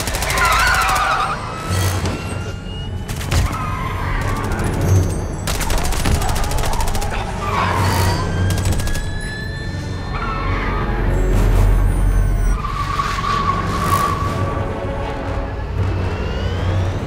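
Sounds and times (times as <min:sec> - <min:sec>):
dramatic orchestral score: 0:00.0 - 0:17.0.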